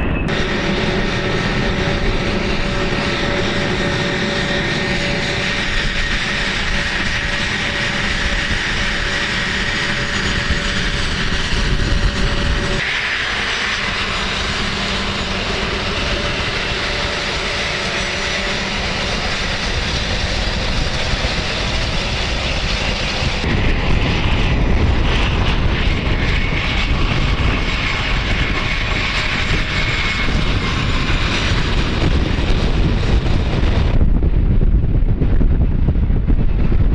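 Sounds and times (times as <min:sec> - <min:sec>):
jet engines whining: 0:00.0 - 0:36.9.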